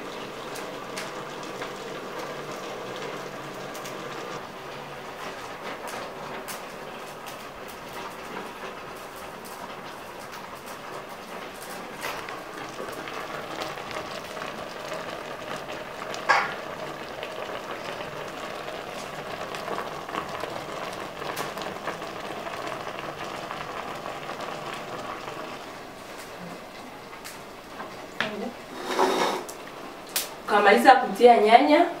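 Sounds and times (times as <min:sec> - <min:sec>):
pot simmering: 0:00.0 - 0:30.7.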